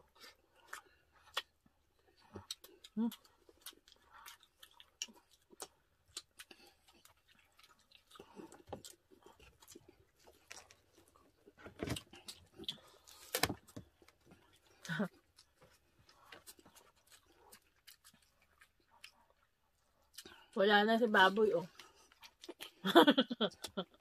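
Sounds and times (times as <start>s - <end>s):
wet chewing and lip smacks: 0.1s - 20.6s, 21.7s - 22.8s.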